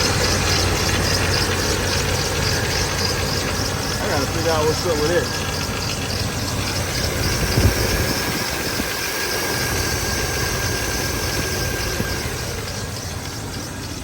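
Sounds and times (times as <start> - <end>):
engine accessory drive rattle: 0.0 - 14.0
truck engine idling: 0.0 - 14.0.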